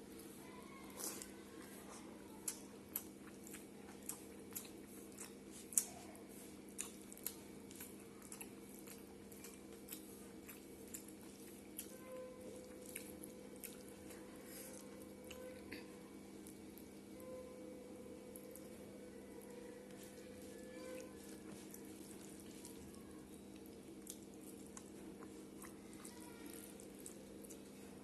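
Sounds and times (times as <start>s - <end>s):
steady low hum: 0.0s - 28.0s
person chewing: 0.9s - 12.0s, 12.6s - 16.6s, 19.8s - 23.0s, 23.6s - 28.0s.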